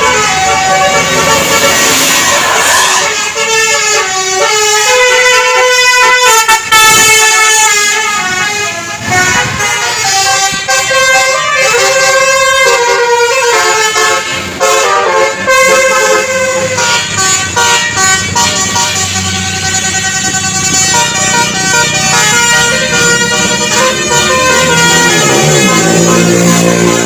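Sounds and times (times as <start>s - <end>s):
bus horn playing melody: 0.0s - 27.0s.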